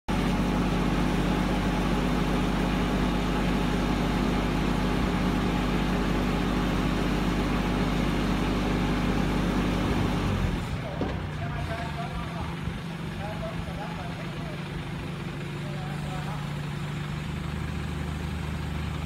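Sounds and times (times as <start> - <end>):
vehicle engine humming: 0.1 - 19.0.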